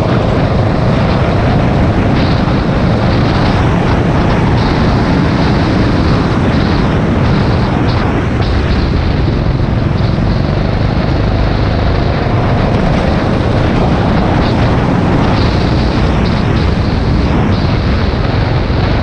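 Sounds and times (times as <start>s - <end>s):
go-kart engine drone: 0.0s - 19.0s
rushing noise: 0.0s - 19.0s.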